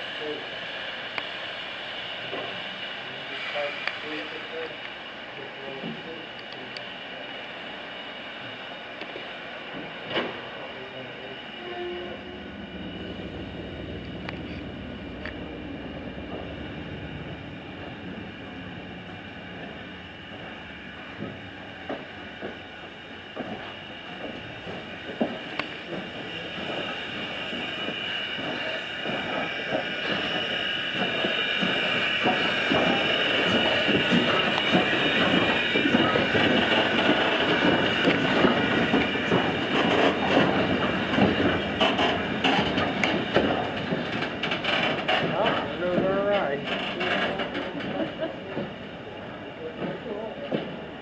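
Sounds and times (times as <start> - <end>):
train wheels rumbling and clicking: 0.1 - 51.0
wheels squealing on rails: 8.3 - 51.0.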